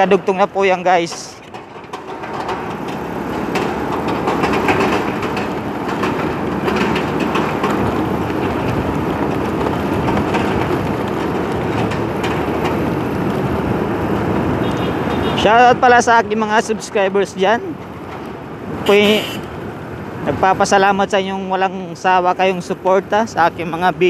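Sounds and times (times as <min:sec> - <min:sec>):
motorcycle road and engine noise: 0:00.0 - 0:24.0.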